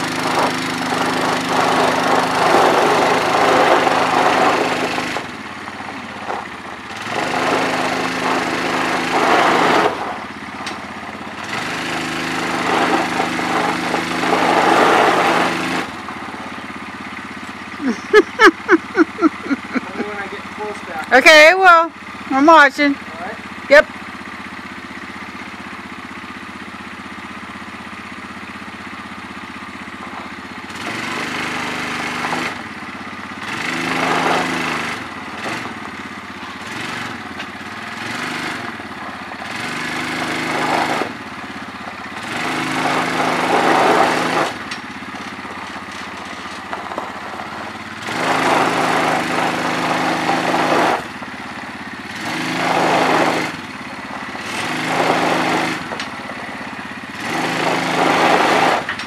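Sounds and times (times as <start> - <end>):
atv engine idling and revving: 0.0 - 59.0.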